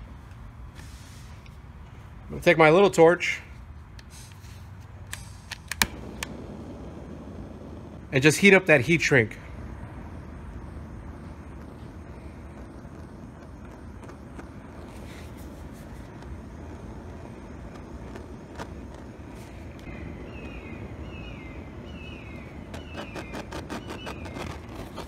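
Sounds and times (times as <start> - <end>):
butane torch hissing: 0.7 - 2.0, 4.0 - 25.0.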